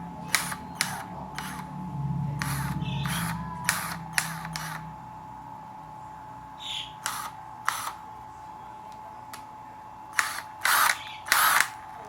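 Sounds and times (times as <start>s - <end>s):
low hum: 0.0s - 11.4s.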